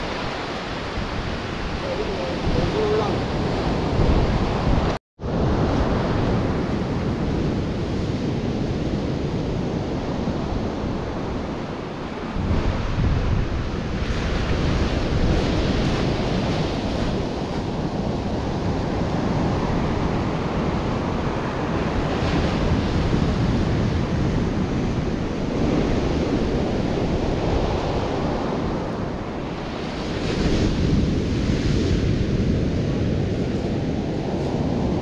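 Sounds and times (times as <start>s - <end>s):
ocean surf breaking: 0.0s - 35.0s
wind rumbling on microphone: 0.0s - 35.0s.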